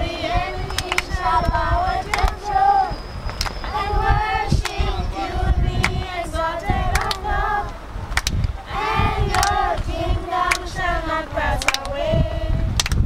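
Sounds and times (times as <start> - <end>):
choir singing: 0.0 - 3.0, 3.6 - 7.9, 8.6 - 12.7.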